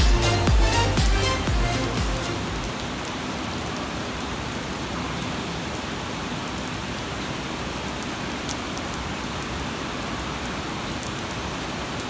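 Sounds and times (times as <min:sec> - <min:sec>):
heavy rain: 0:00.0 - 0:12.0
raindrops ticking close by: 0:00.0 - 0:12.0.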